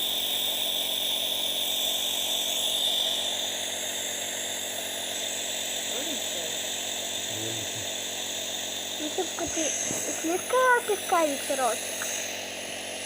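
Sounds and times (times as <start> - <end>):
small electric motor whirring: 0.0 - 13.0.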